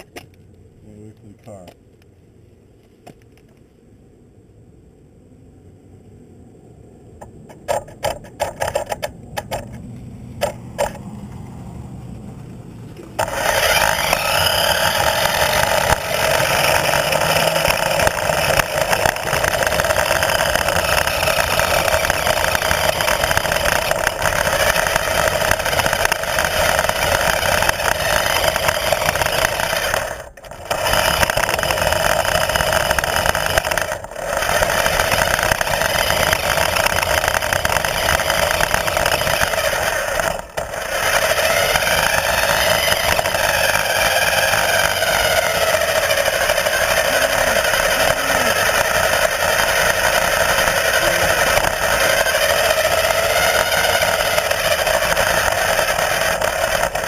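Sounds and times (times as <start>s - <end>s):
sharp clicks and knocks: 0.0s - 2.1s, 7.2s - 11.6s, 12.4s - 57.0s
vehicle engine running: 7.2s - 57.0s.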